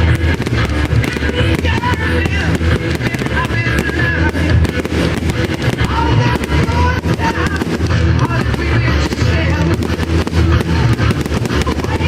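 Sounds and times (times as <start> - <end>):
fireworks crackling and banging: 0.0 - 12.0
loud music: 0.0 - 12.0.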